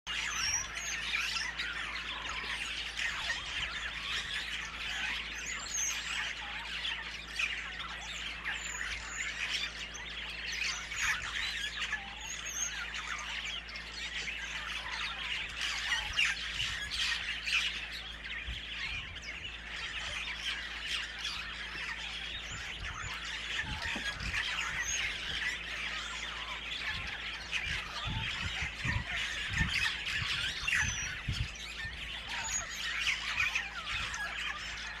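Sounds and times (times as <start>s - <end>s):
birds calling and squawking: 0.0s - 35.0s.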